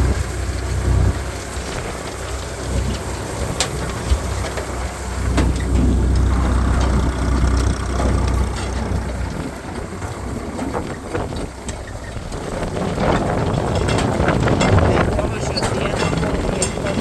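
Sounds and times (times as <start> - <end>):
tractor engine humming: 0.0 - 17.0.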